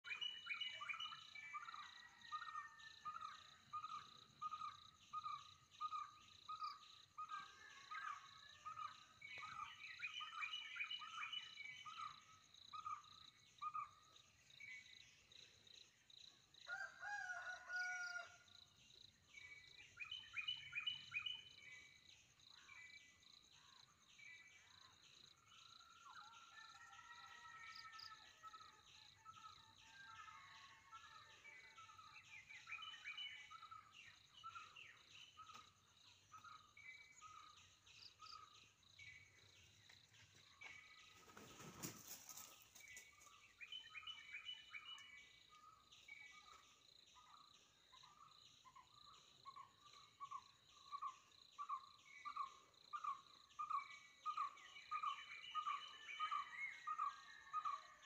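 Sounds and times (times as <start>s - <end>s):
forest birds calling: 0.0s - 16.0s, 19.4s - 58.0s.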